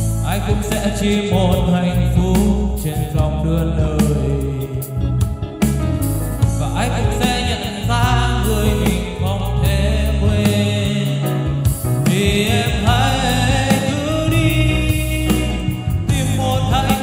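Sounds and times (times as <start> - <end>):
karaoke backing track: 0.0 - 17.0
man singing: 0.0 - 17.0.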